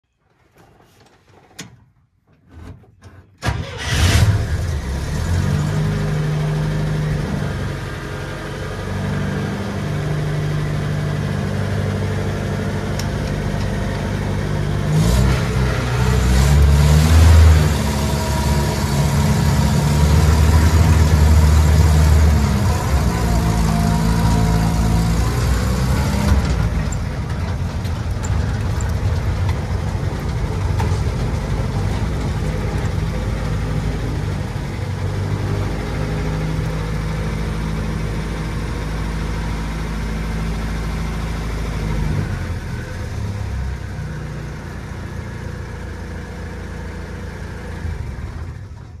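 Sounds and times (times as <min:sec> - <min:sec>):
engine starting and running: 0:00.4 - 0:49.0.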